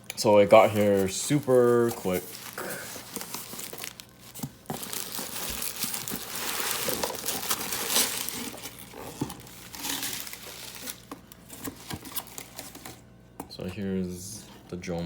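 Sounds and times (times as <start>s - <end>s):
packaging crinkling and rustling: 0.2s - 13.0s.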